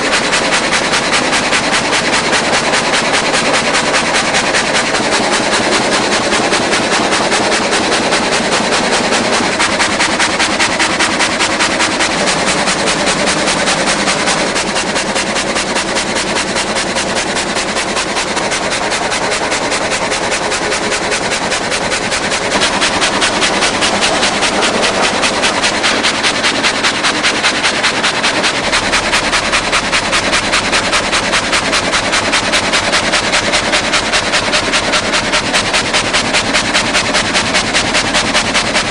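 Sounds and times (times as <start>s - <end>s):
gang saw clattering: 0.0s - 38.9s.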